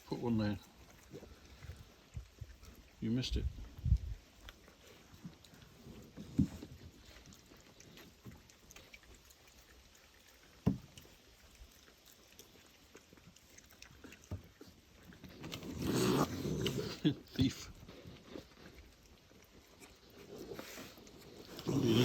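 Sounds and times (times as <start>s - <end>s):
raccoons chewing snack food: 0.0s - 22.0s
rustling: 3.6s - 22.0s.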